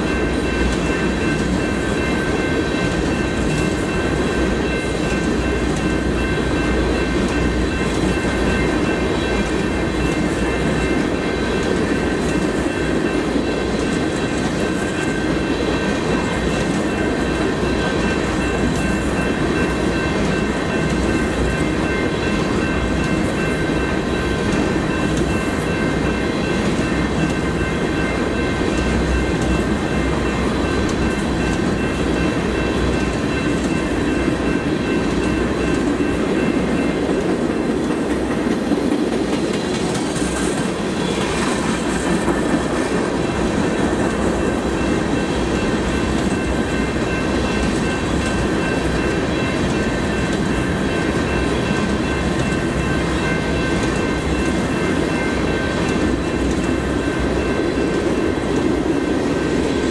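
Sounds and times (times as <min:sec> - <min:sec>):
steel wheels on rails: 0:00.0 - 0:59.9.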